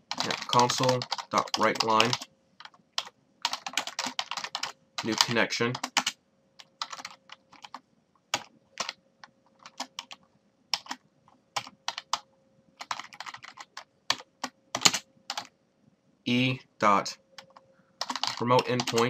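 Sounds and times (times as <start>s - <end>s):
typing on computer keyboard: 0.0s - 11.0s, 11.6s - 15.5s, 17.4s - 19.0s.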